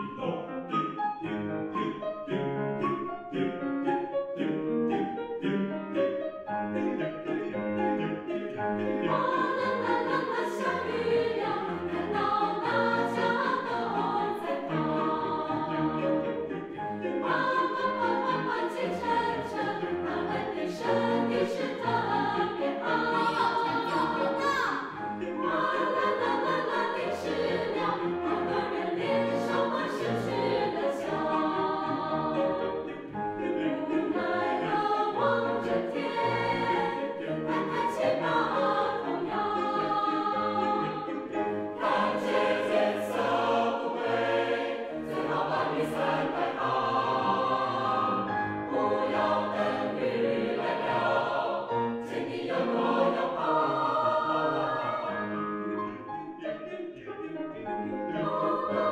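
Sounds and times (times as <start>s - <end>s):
mixed choir singing: 0.0s - 58.9s.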